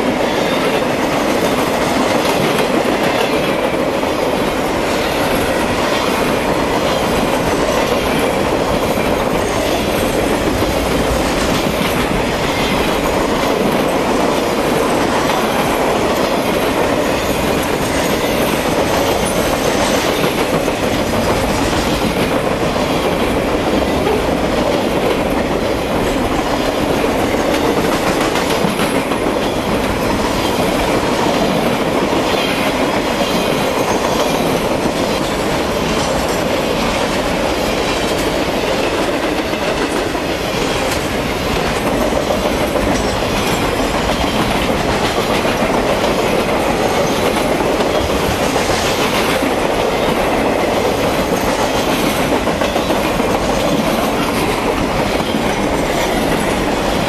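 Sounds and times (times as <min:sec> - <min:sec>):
steel train wheels rolling on rail: 0:00.0 - 0:57.0.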